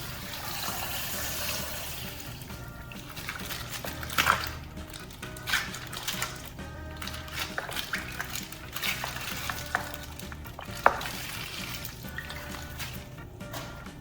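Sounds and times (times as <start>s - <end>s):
soft background music: 0.0s - 14.0s
plastic pouch crinkling: 2.1s - 13.7s.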